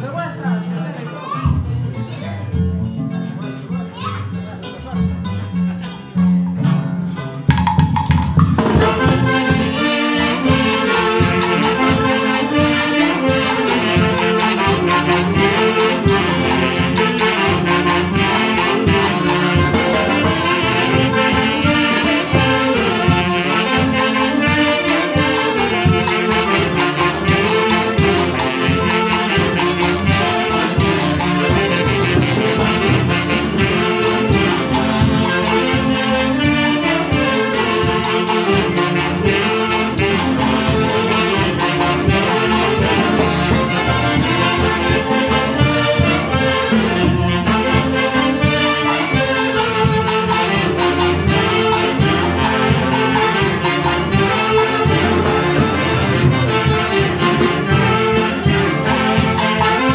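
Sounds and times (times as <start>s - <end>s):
band playing lively dance tune: 5.0s - 59.9s.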